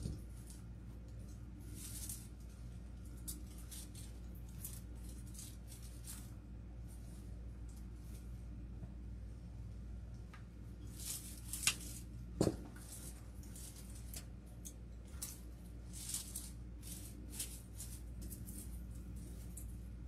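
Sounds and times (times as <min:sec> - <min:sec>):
artificial greenery rustling: 0:00.0 - 0:20.0.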